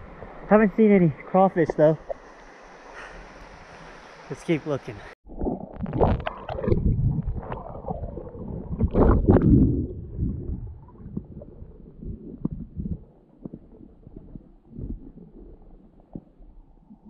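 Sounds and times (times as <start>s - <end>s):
muffled underwater water rushing: 0.0s - 4.4s, 5.2s - 17.0s.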